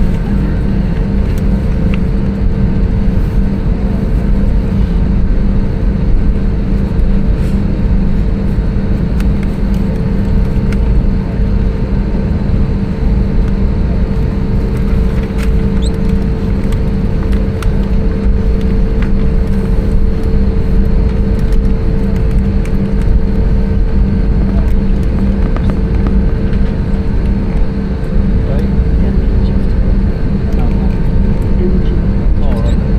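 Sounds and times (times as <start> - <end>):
aircraft engines and airflow rumble: 0.0 - 32.9
mid-pitched hum: 0.0 - 32.9.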